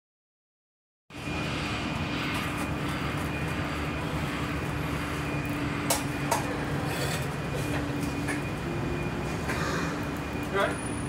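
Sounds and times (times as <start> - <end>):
bus diesel engine rumble: 1.2 - 11.0.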